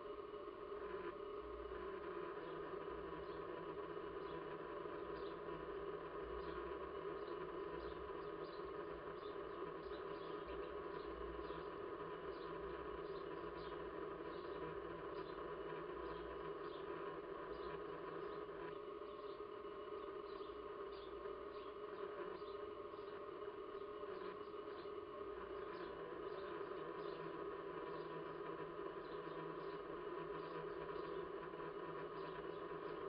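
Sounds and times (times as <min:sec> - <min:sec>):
faint steady hum: 0:00.0 - 0:33.0
small birds chirping: 0:02.4 - 0:33.0.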